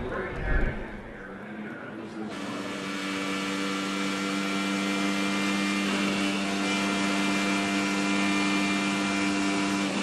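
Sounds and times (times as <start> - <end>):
steady engine drone: 0.0 - 10.0.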